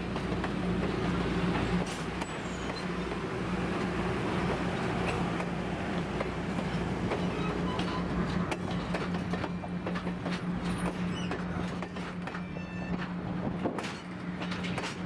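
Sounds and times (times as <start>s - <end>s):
train running on rails: 0.0s - 15.0s
rolling stock clicks and squeaks: 1.1s - 5.2s, 6.6s - 15.0s.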